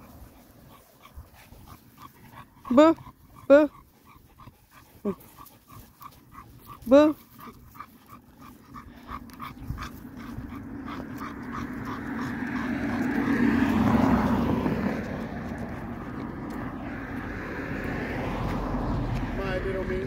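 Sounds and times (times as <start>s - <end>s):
dog panting: 0.0s - 20.0s
passing car: 0.0s - 20.0s.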